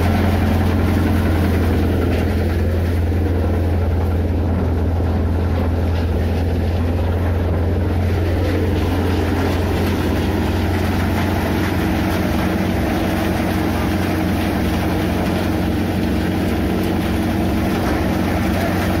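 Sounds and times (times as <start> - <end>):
thresher machine droning: 0.0 - 19.0.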